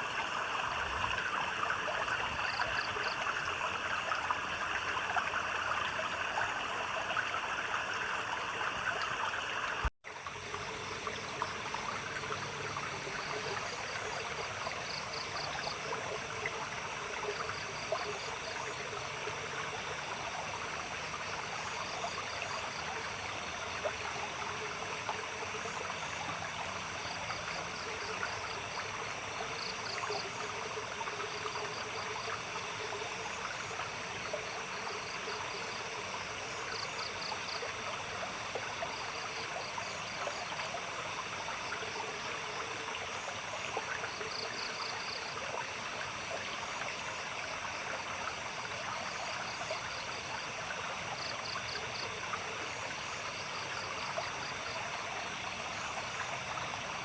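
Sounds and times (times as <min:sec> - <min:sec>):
insects chirping: 0:00.0 - 0:57.0
stream trickling and babbling: 0:00.0 - 0:57.0.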